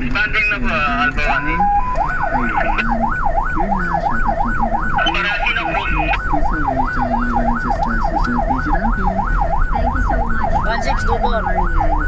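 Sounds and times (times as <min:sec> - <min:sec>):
vehicle engine and road noise: 0:00.0 - 0:12.0
electronic siren yelping: 0:00.4 - 0:12.0.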